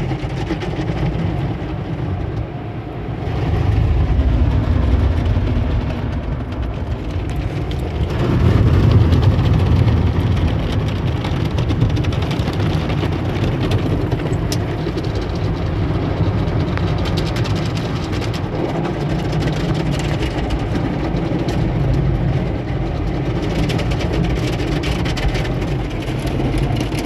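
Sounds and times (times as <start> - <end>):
car wash machinery rumbling: 0.0 - 27.0.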